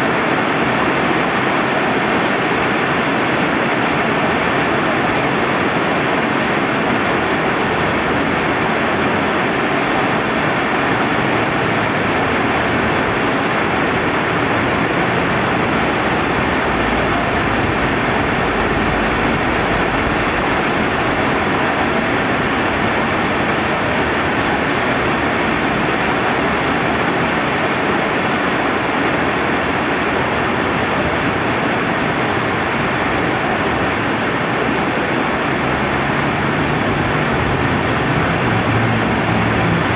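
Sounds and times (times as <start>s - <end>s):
rushing river: 0.0s - 39.9s
steady rain falling: 0.0s - 39.9s.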